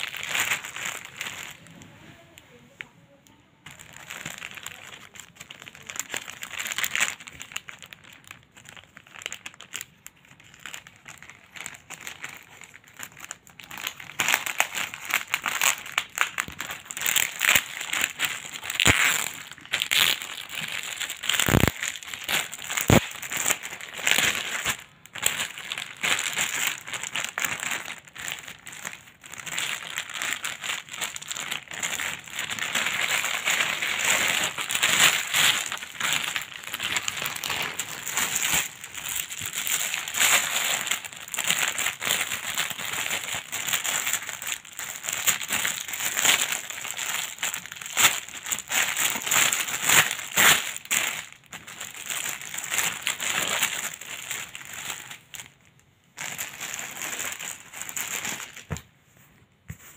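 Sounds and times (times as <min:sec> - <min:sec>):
plastic bag crinkling: 0:00.0 - 0:58.9.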